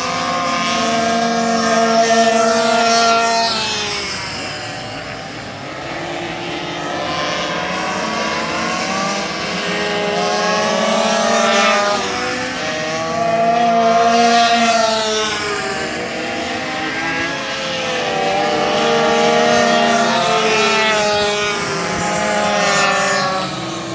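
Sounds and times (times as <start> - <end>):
minibike engines revving past: 0.0 - 23.9.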